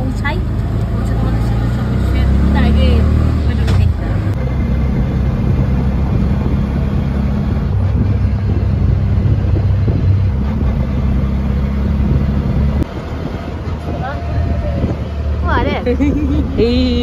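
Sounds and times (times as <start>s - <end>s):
auto-rickshaw engine running: 0.0s - 17.0s.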